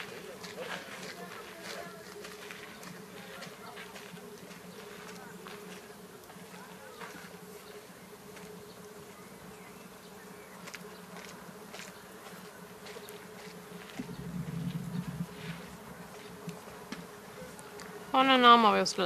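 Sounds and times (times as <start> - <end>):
low buzzing hum: 0.0 - 19.0.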